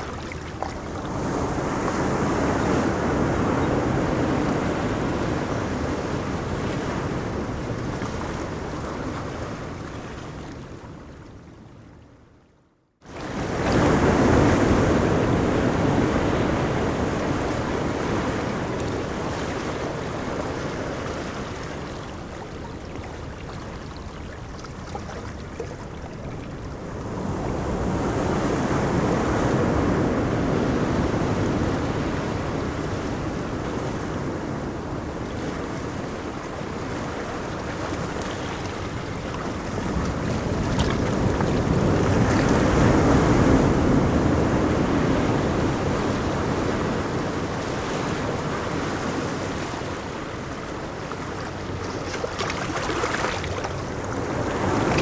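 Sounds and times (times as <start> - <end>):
ocean surf washing onto beach: 0.0 - 10.9, 13.1 - 55.0.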